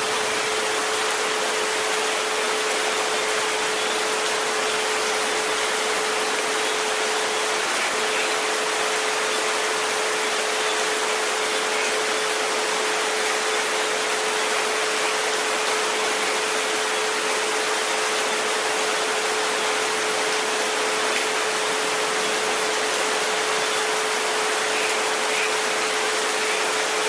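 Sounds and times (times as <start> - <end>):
steady rain hiss: 0.0 - 27.0.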